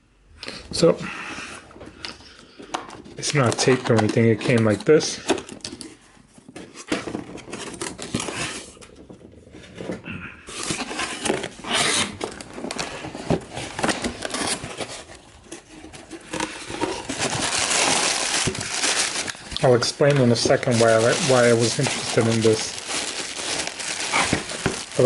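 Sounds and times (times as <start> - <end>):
packaging rustling and crinkling: 2.6 - 25.0.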